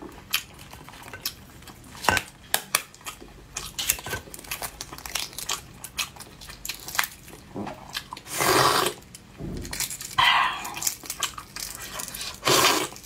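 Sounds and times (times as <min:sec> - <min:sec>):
food crinkling and crackling: 0:00.0 - 0:13.0.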